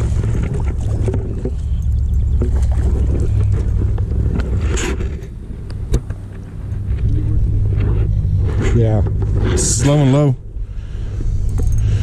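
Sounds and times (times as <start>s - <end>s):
water lapping around boat: 0.0s - 12.0s.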